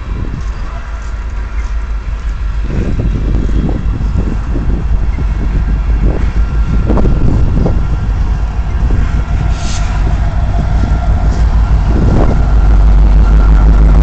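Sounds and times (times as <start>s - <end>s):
coal hoppers rumbling over rails: 0.0s - 14.0s
diesel locomotive engine drone: 0.0s - 14.0s.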